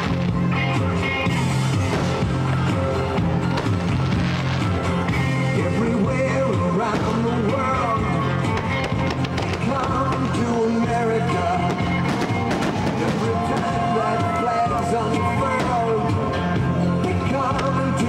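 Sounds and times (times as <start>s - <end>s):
rock song with drum beat: 0.0s - 18.0s.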